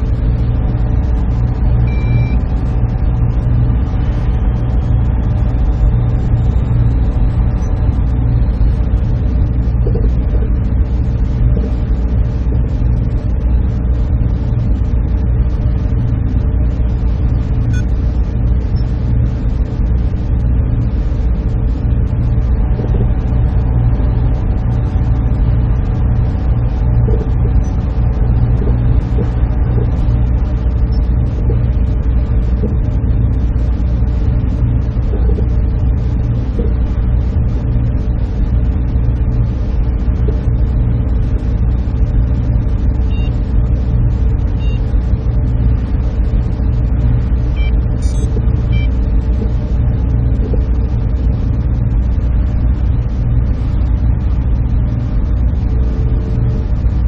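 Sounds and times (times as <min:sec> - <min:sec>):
deep low drone: 0:00.0 - 0:57.0
server equipment hum: 0:00.0 - 0:57.0.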